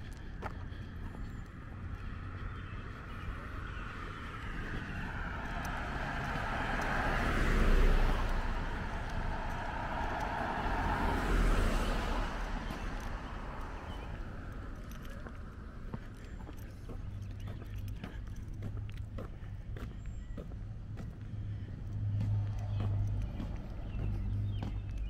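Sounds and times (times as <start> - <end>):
street traffic: 0.0 - 25.0
vehicle passing: 0.0 - 25.0.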